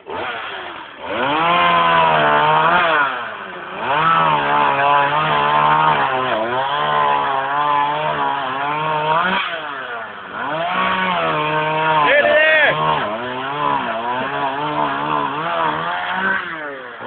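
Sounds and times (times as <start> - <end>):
chainsaw cutting into tree: 0.0 - 17.0.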